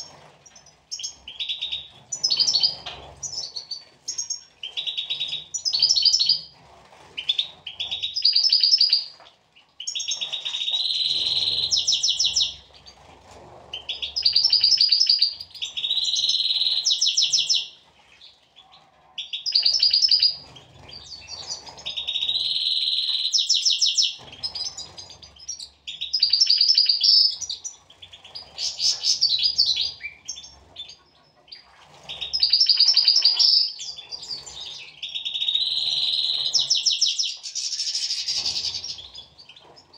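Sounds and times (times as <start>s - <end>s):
goldfinch singing twittering trills: 0.0s - 6.4s, 7.2s - 9.1s, 9.8s - 12.9s, 13.8s - 17.8s, 19.2s - 39.9s.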